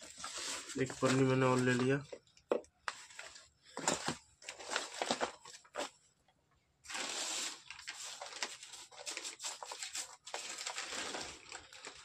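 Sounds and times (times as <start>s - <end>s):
plastic sheet rustling and crinkling: 0.0s - 2.2s, 2.9s - 6.0s, 6.9s - 12.0s.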